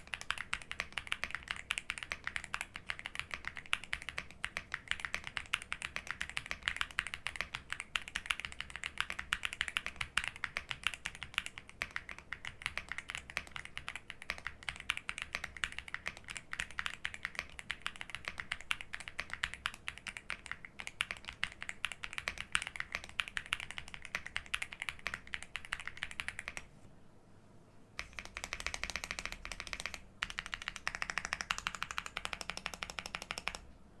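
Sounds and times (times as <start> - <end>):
mechanical keyboard typing: 0.0 - 26.7, 28.0 - 33.7.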